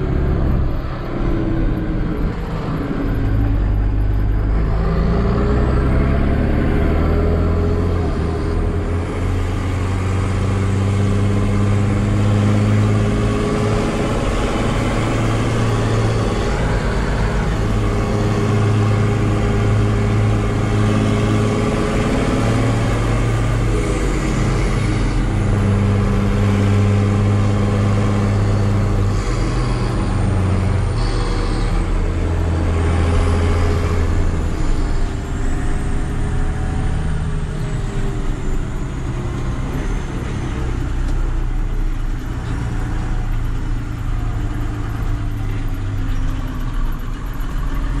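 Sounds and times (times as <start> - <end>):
tractor diesel engine drone: 0.0 - 48.0.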